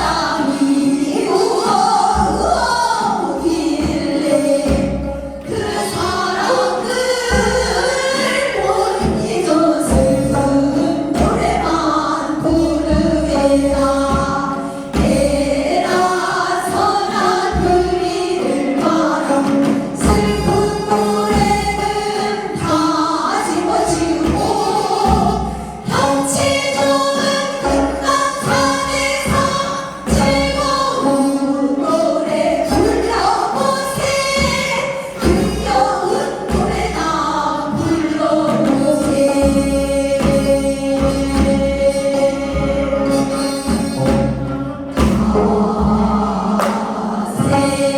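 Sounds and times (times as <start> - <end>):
folk song singing: 0.0 - 47.9.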